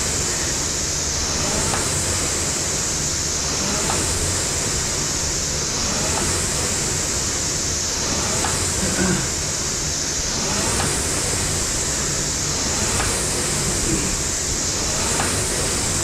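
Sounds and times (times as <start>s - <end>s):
rowing machine fan whooshing: 0.0s - 16.0s.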